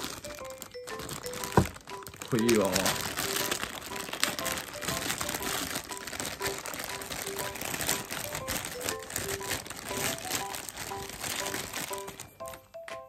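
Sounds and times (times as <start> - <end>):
plastic packaging crinkling: 0.0 - 12.9
background music with simple melody: 0.0 - 13.0.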